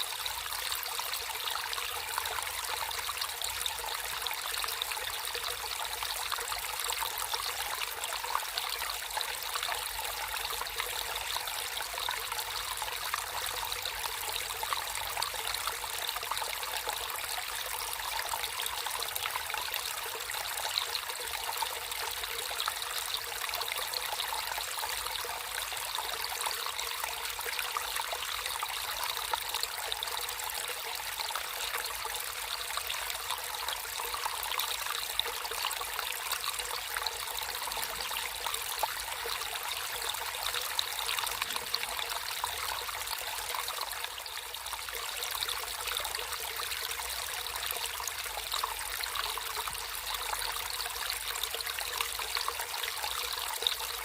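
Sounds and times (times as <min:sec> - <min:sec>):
water trickling over stones: 0:00.0 - 0:54.0.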